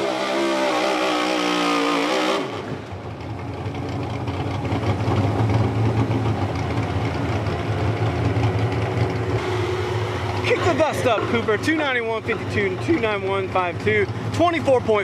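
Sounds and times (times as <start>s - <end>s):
truck engine revving and idling: 0.0s - 15.0s.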